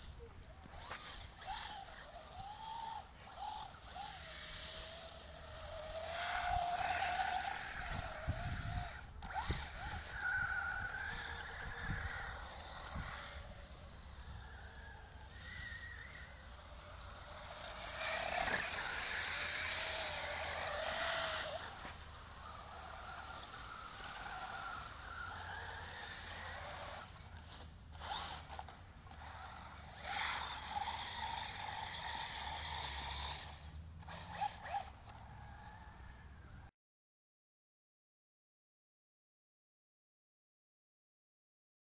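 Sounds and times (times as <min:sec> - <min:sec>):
toy truck motor whining: 0:00.0 - 0:36.7.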